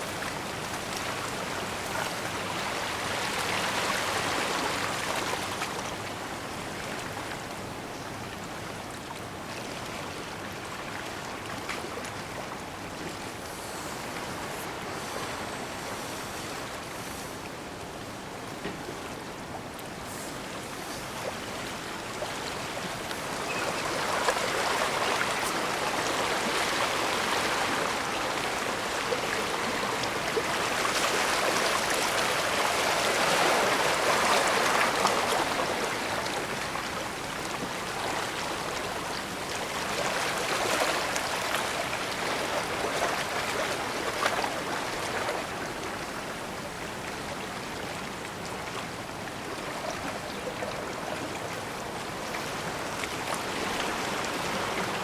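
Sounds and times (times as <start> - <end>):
water washing at shore: 9.2 - 55.0.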